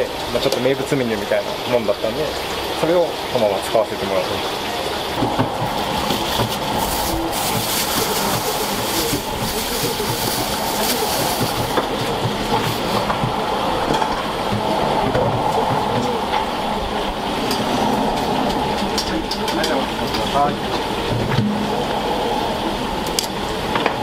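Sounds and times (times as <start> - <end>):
steady kitchen rush: 0.0 - 24.0.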